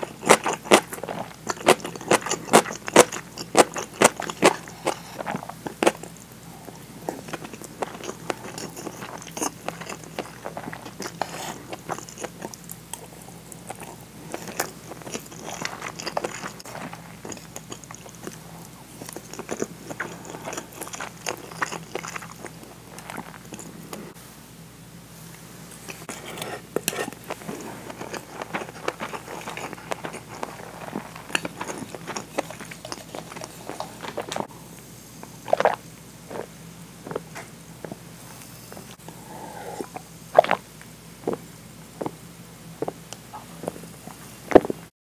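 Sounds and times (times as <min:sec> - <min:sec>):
crunchy chewing of food: 0:00.0 - 0:24.2, 0:25.7 - 0:44.9.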